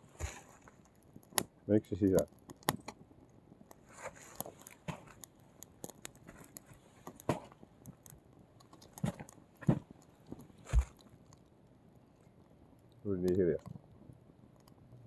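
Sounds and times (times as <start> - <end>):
twigs crackling in fire: 0.0 - 15.0.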